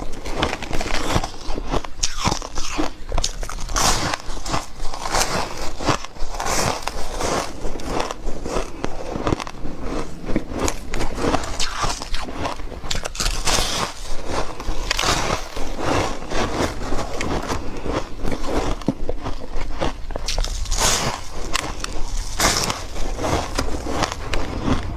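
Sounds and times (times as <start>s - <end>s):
ice being crunched: 0.0s - 24.9s.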